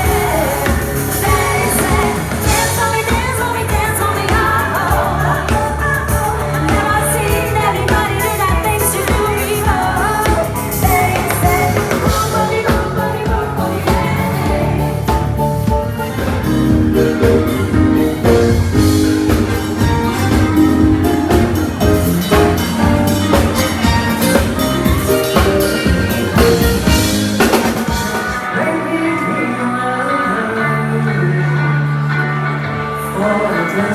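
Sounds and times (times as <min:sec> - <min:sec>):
drum kit steady beat: 0:00.0 - 0:28.5
held chords: 0:00.0 - 0:33.0
live band through pa: 0:00.0 - 0:33.9.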